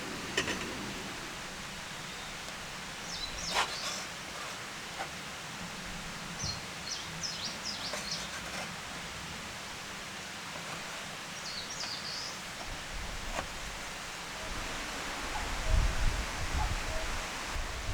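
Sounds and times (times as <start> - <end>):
forest stream rushing: 0.0 - 7.8, 8.8 - 17.9.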